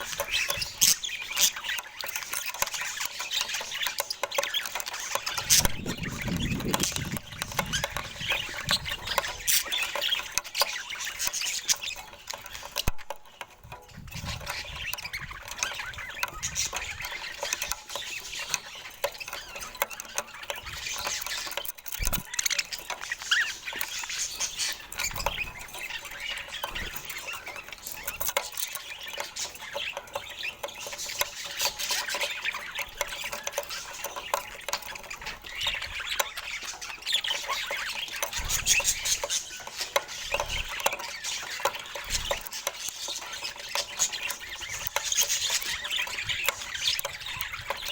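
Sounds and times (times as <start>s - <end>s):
budgerigars chirping and chattering: 0.0s - 47.9s.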